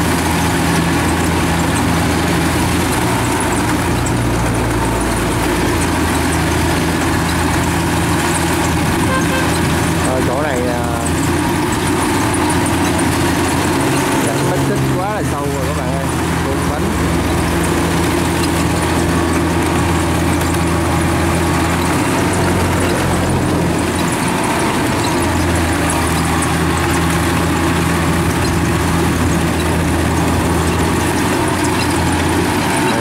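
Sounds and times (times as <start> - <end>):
diesel engine running under load: 0.0 - 33.0.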